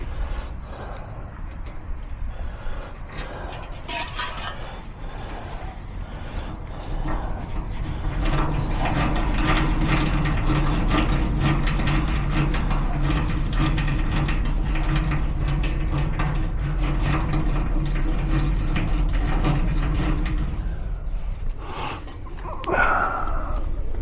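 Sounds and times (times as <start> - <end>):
rapid metallic clicking and rattling: 0.0 - 22.5.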